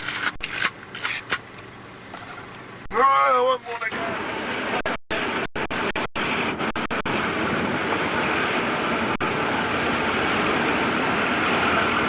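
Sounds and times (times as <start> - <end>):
road noise hiss: 0.0 - 12.0
vehicle engine rumble: 0.0 - 12.0.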